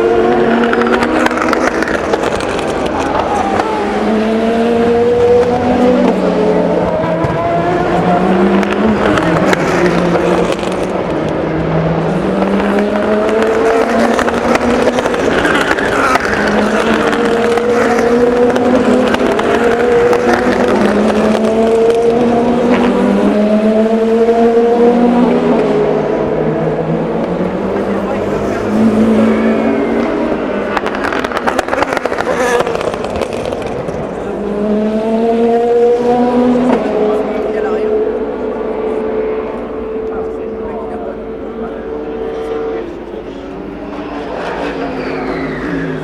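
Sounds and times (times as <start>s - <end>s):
race car engines accelerating: 0.0s - 46.0s.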